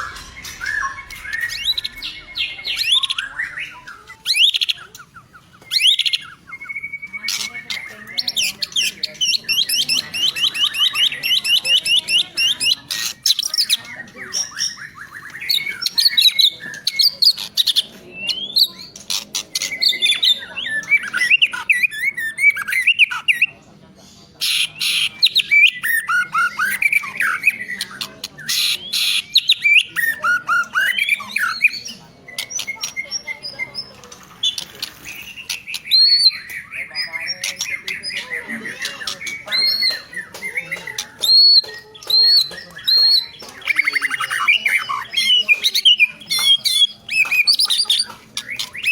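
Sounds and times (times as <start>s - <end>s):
songbird singing trills and whistles: 0.0s - 23.6s, 24.2s - 48.9s.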